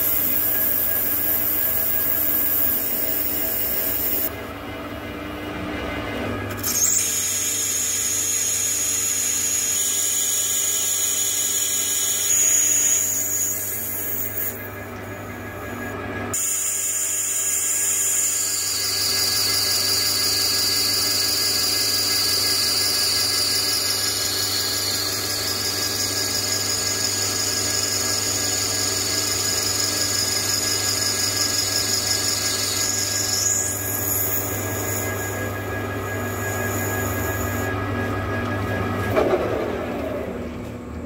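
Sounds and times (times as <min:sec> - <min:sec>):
high-pitched cutting whine: 0:00.0 - 0:04.6, 0:06.5 - 0:39.1
metal lathe humming: 0:00.0 - 0:04.6, 0:06.5 - 0:15.7, 0:16.3 - 0:38.6.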